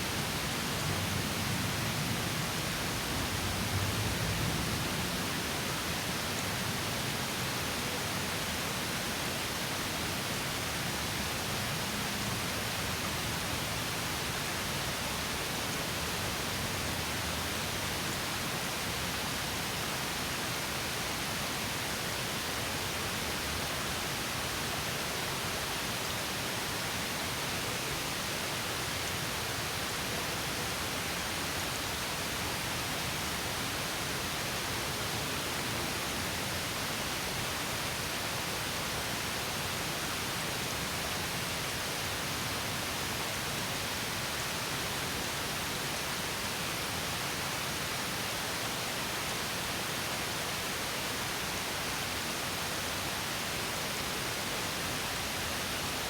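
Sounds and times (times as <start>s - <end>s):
stream over small waterfall: 0.0s - 56.0s.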